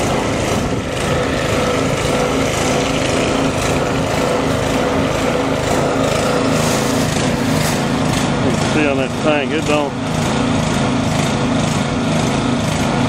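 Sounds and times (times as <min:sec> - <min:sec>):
engine-driven pump running: 0:00.0 - 0:13.0.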